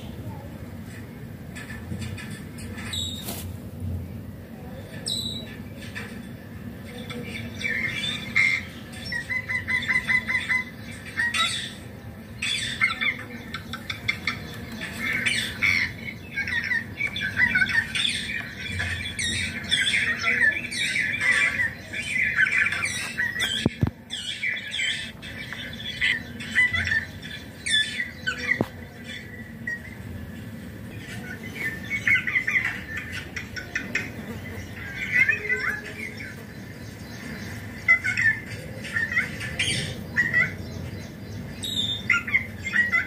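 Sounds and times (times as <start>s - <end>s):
parakeet squawking and chattering: 1.6s - 3.3s, 4.9s - 43.0s.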